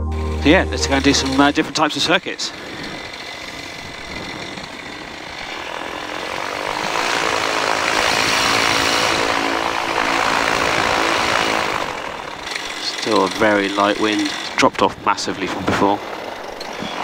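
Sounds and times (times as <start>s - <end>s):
light aircraft engine and propeller: 0.1s - 17.0s.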